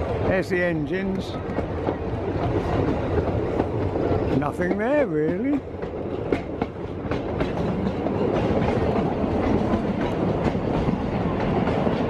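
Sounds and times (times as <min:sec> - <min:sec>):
rail joint clicks and knocks: 0:00.0 - 0:12.0
train wheels rumbling on track: 0:00.0 - 0:12.0.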